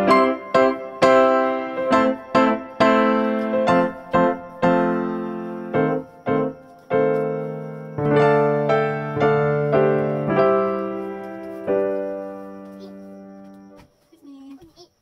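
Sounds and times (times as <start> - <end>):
piano melody: 0.0 - 13.8.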